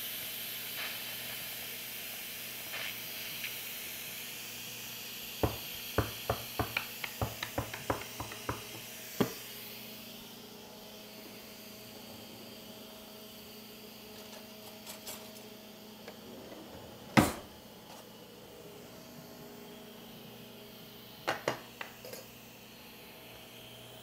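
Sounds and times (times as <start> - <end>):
pressure cooker steam hissing: 0.0 - 16.3, 20.0 - 24.0.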